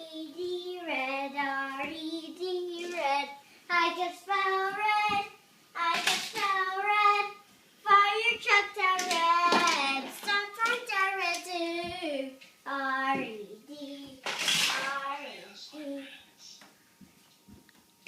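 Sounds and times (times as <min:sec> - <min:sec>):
young child singing: 0:00.0 - 0:16.1.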